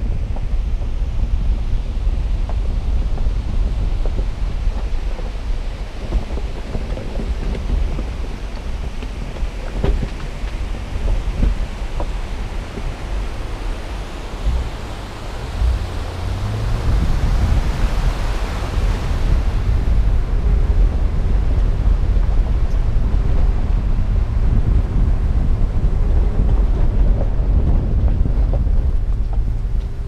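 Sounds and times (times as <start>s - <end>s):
river rushing: 0.0s - 30.0s
vehicle rumble on gravel: 0.0s - 30.0s
wind on microphone: 0.0s - 30.0s.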